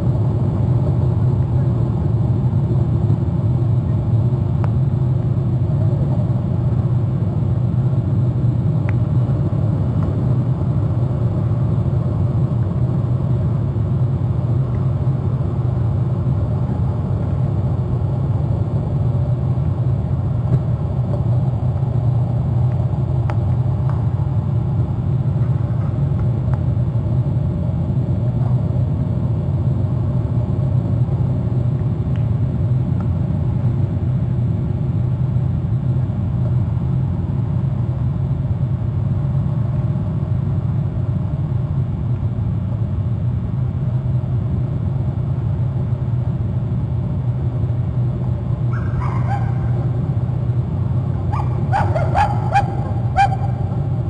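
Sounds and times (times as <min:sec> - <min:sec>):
steady low rumbling: 0:00.0 - 0:54.0.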